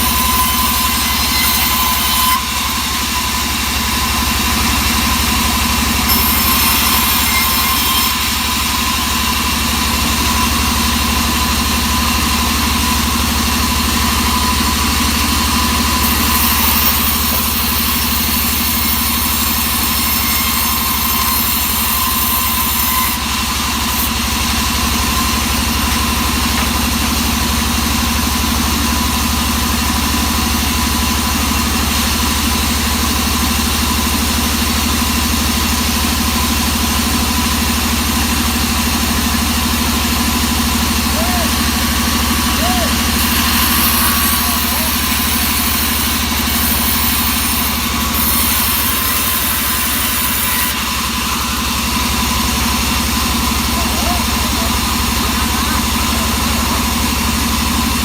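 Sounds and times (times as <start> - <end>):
engine-driven wood saw running: 0.0 - 58.0.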